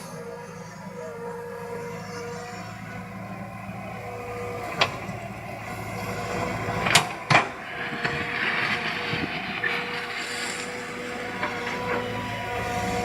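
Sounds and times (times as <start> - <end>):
excavator running: 0.0 - 13.0.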